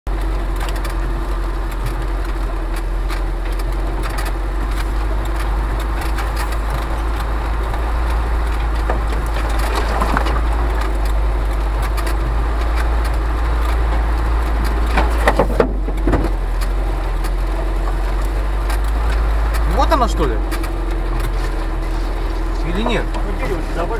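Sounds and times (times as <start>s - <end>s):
branches scraping vehicle body: 0.1s - 23.9s
vehicle engine running: 0.1s - 23.9s.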